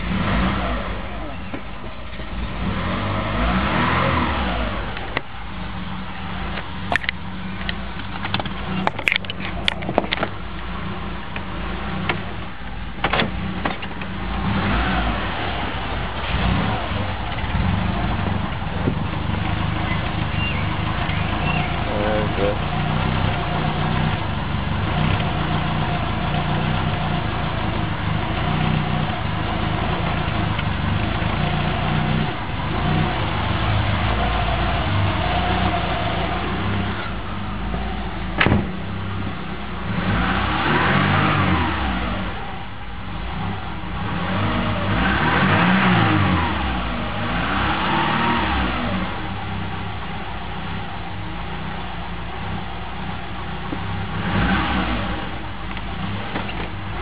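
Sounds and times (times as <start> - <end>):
car engine idling unsteadily: 0.0 - 57.0.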